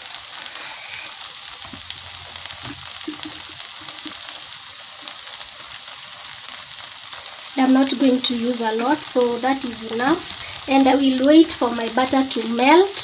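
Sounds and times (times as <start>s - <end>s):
butter sizzling in a pot: 0.0s - 13.0s.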